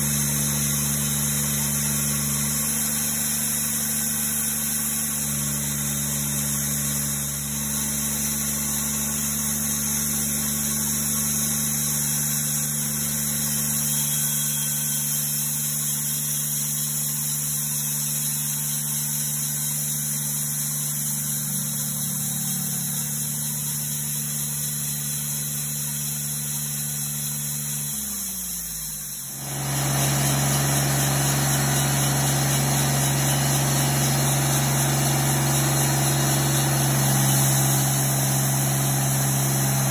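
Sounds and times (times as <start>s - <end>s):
saw blade cutting log: 0.0s - 39.9s
sawmill engine running: 0.0s - 39.9s
second sawmill engine hissing: 0.0s - 39.9s.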